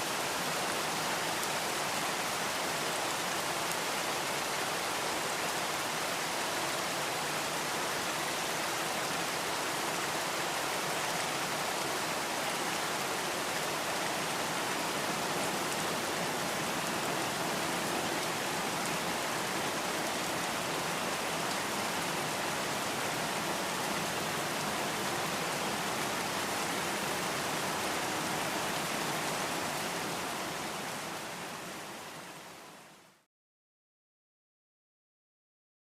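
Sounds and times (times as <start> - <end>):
light rain falling: 0.0 - 33.3.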